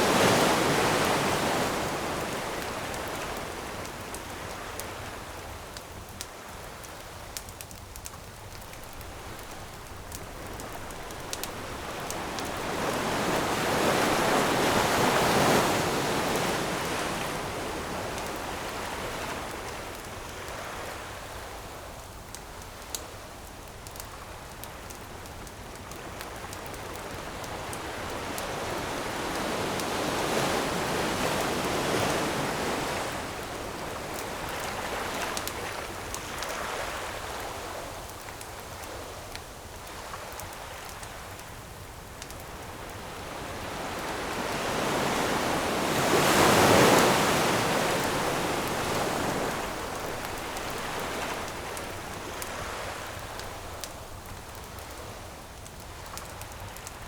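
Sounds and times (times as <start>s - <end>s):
ocean waves washing ashore: 0.0s - 23.2s, 25.2s - 57.0s
campfire crackling: 0.0s - 57.0s.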